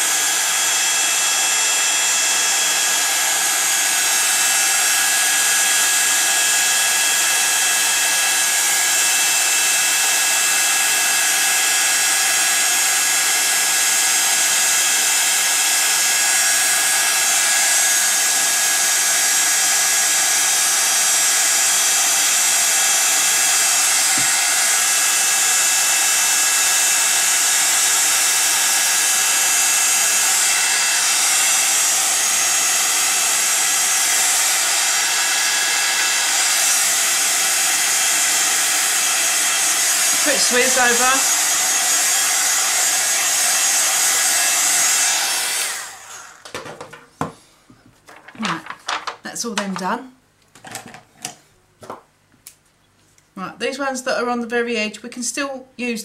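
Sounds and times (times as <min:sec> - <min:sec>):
heat gun blowing: 0:00.0 - 0:46.6.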